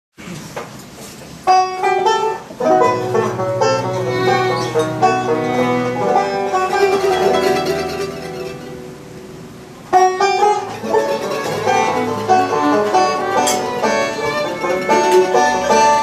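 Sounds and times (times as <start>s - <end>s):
bluegrass band playing: 1.4s - 16.0s.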